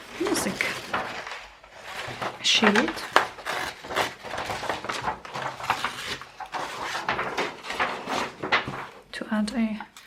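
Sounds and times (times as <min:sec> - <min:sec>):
paper rustling and crinkling: 0:00.0 - 0:09.1.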